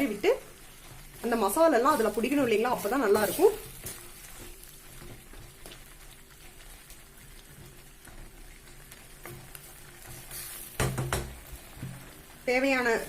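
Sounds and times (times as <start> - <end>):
chicken frying with soft sizzle: 0.0 - 13.0.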